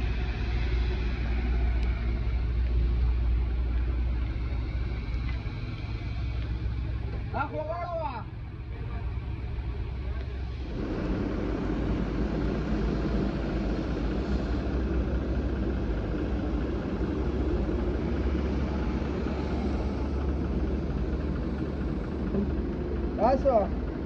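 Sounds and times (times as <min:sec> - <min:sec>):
heavy engine running: 0:00.0 - 0:24.0.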